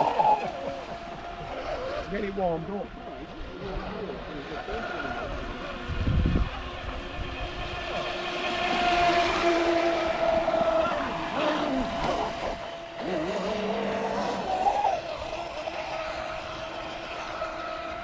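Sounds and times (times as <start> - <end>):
model boat motors whining: 0.0 - 18.0.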